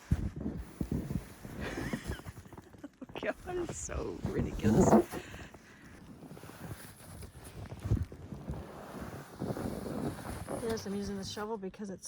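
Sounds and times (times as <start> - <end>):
snow shovel scraping snow: 0.0 - 11.4
wind noise on microphone: 0.0 - 11.4.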